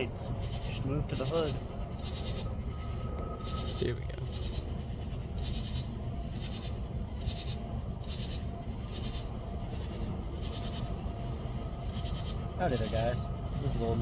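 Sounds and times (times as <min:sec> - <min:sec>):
diesel locomotives rumbling: 0:00.0 - 0:14.0.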